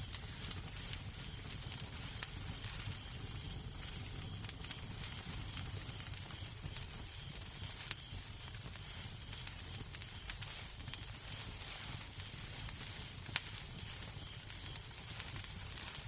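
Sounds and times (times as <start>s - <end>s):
hiss and rumble of flames: 0.0s - 16.0s
wood fire crackling: 0.0s - 16.0s.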